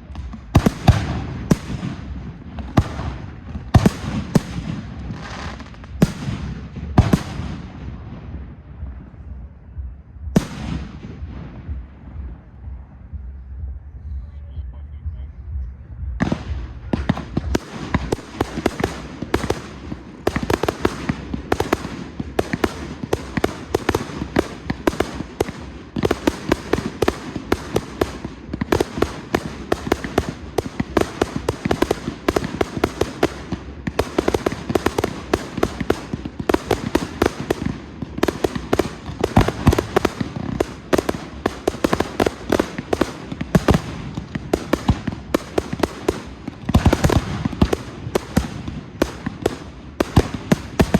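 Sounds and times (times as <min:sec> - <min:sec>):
fireworks bangs and crackling: 0:00.0 - 0:13.4, 0:15.6 - 0:50.9.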